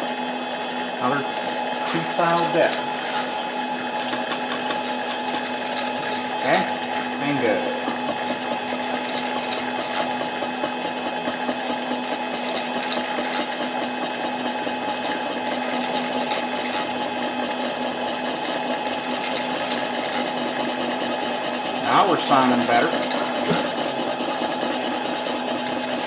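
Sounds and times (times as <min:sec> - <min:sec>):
cutting tool chatter: 0:00.0 - 0:26.0
lathe motor and gear whine: 0:00.0 - 0:26.0.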